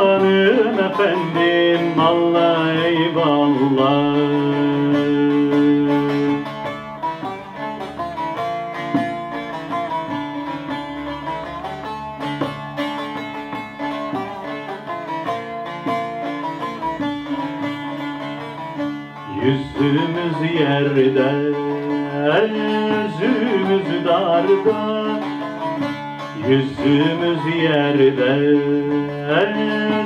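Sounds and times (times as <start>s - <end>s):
plucked string melody: 0.0s - 30.0s.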